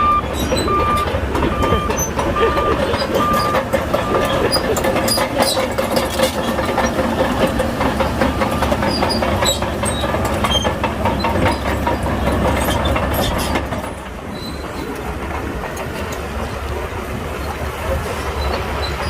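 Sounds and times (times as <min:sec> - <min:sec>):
bulldozer diesel engine running: 0:00.0 - 0:19.0
steel tracks clanking: 0:00.0 - 0:19.0.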